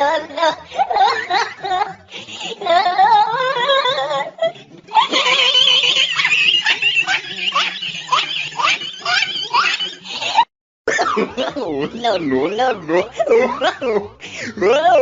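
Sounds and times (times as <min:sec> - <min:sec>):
wavering laugh: 0:00.0 - 0:15.0.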